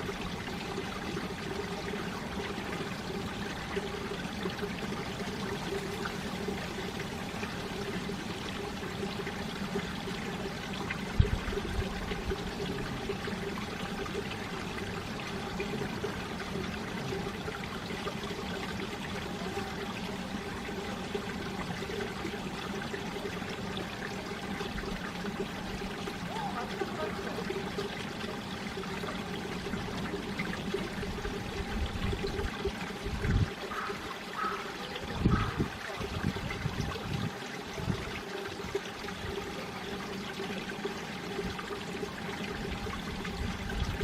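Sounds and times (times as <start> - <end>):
stream splashing over rocks: 0.0 - 44.0.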